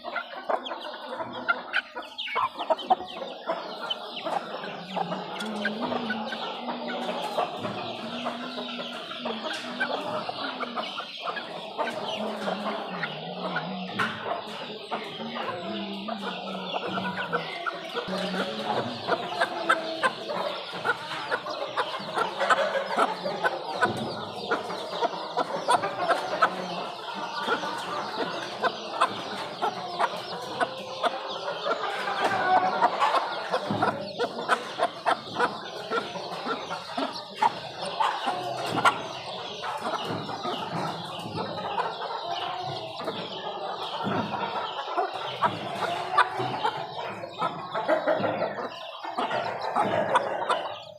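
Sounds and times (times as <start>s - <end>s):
chicks calling: 0.0s - 50.9s.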